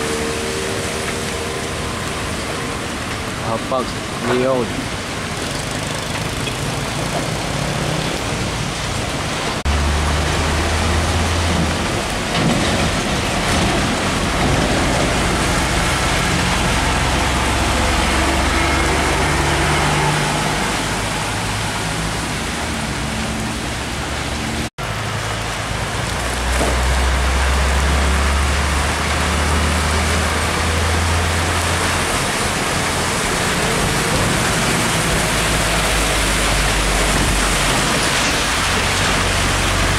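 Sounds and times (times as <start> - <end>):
diesel trucks driving past: 0.0 - 39.9
heavy rain on road: 0.0 - 39.9.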